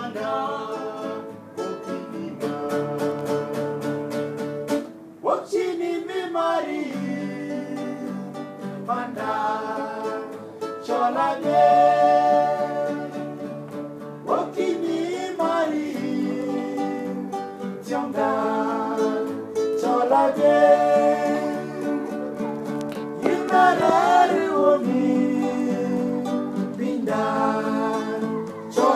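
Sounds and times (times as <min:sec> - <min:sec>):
man singing: 0:00.0 - 0:03.6, 0:05.2 - 0:13.4, 0:14.2 - 0:22.4, 0:23.2 - 0:28.9
acoustic guitar strumming: 0:00.0 - 0:05.2, 0:06.8 - 0:28.9.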